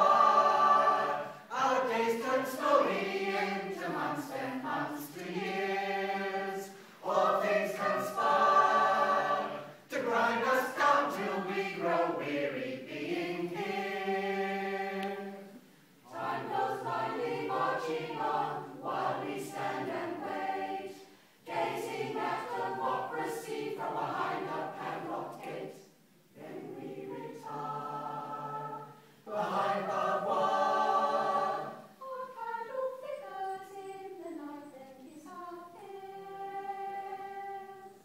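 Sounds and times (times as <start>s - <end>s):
choir singing: 0.0s - 38.0s.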